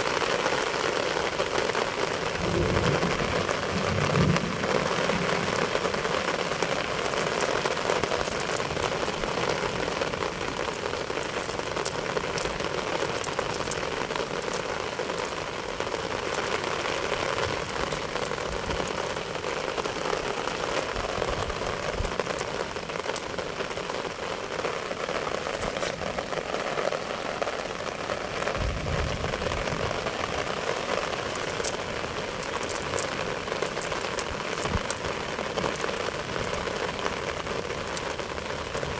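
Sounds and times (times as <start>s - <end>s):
rain drop ticks: 0.0s - 38.9s
rain falling on wet ground: 0.0s - 38.9s.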